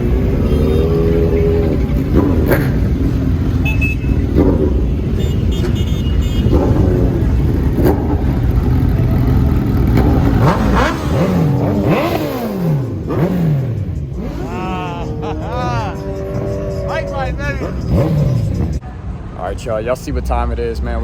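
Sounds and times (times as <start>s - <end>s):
motorcycle engines revving: 0.0s - 19.2s.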